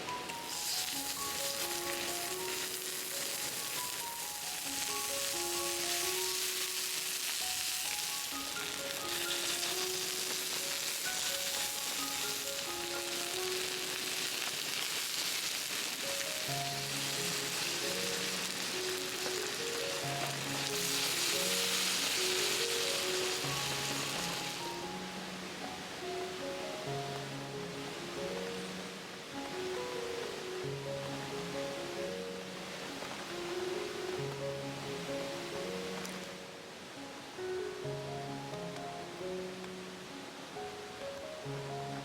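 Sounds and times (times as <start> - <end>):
gentle background music: 0.0 - 42.0
steady hiss: 0.0 - 42.0.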